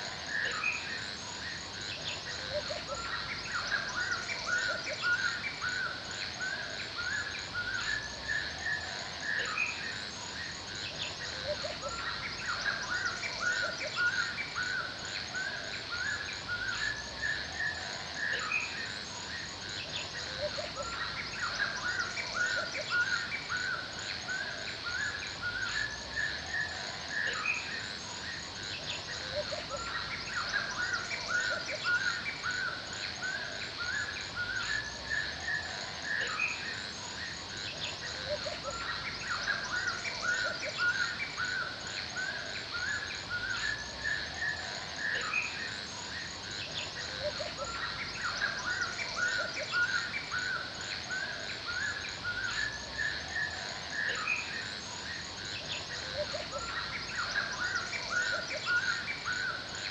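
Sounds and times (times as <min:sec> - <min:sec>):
high-pitched background hiss: 0:00.0 - 0:59.9
birds chirping and calling: 0:00.1 - 0:59.9.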